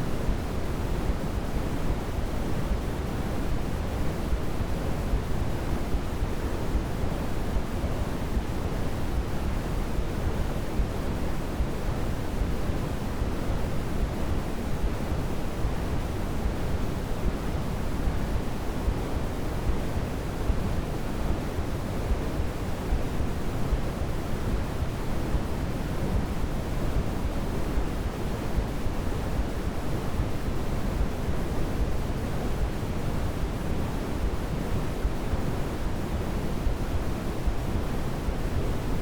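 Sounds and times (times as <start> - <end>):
white noise hiss: 0.0 - 39.0.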